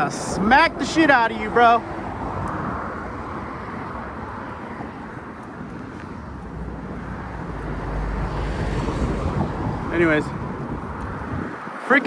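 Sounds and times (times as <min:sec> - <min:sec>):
motor vehicle rumble: 0:00.0 - 0:11.8
road traffic noise: 0:00.0 - 0:12.0
wind on microphone: 0:00.0 - 0:12.0.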